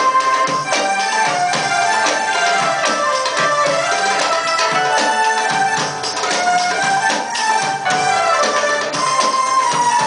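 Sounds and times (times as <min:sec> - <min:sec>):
percussion beat: 0:00.0 - 0:10.0
qanun melody: 0:00.0 - 0:10.0.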